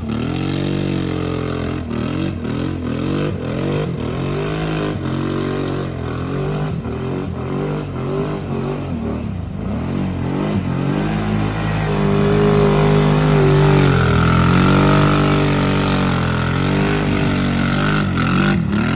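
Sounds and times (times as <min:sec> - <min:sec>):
atv engine revving: 0:00.0 - 0:18.9.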